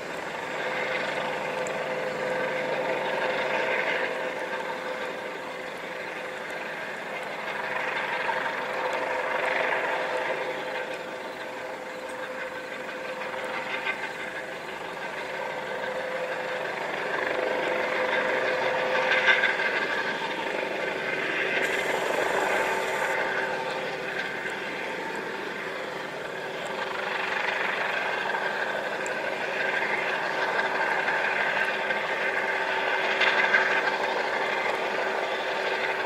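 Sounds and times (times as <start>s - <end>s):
constant whine: 0.0s - 36.0s
helicopter engine drone: 0.0s - 36.0s.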